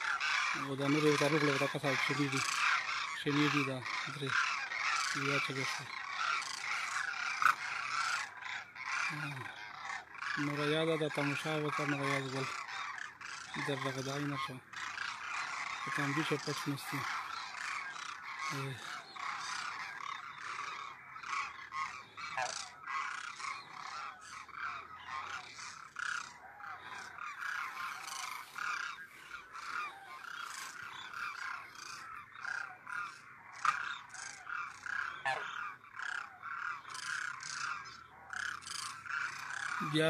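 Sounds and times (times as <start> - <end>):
cranes calling in chorus: 0.0 - 40.0.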